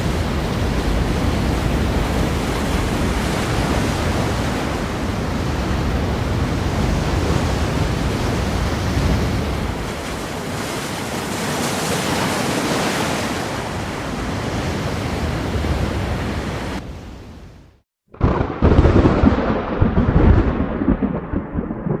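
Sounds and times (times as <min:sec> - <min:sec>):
ocean waves breaking: 0:00.0 - 0:18.7.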